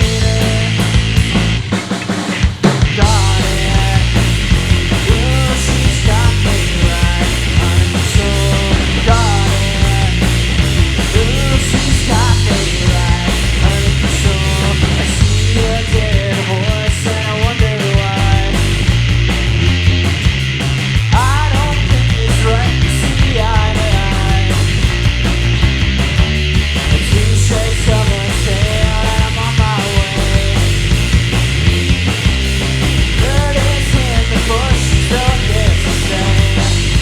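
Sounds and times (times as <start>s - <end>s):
bass guitar: 0.0s - 37.0s
distorted electric guitar: 0.0s - 37.0s
drum kit: 0.0s - 37.0s.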